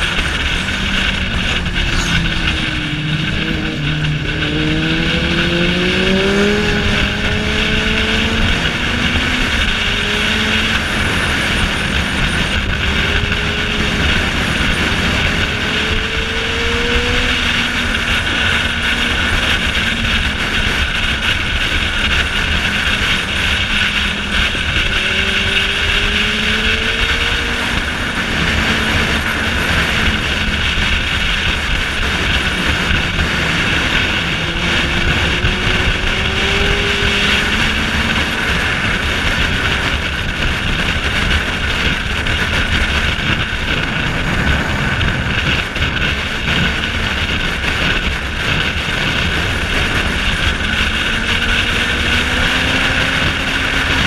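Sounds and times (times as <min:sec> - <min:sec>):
motorcycle engine running: 0:00.0 - 0:54.0
wind rushing over camera: 0:00.0 - 0:54.0.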